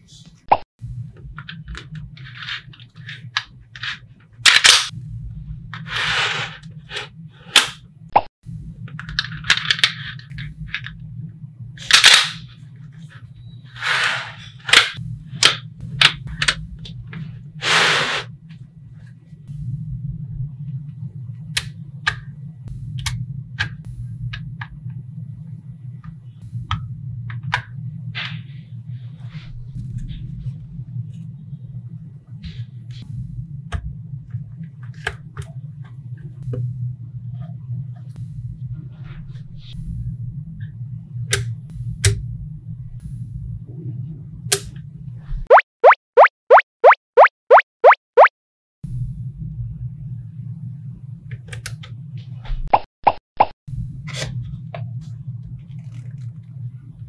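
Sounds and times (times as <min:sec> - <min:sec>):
low hum: 0:00.0 - 0:17.6, 0:18.3 - 0:45.5, 0:48.8 - 0:52.7, 0:53.7 - 0:57.0.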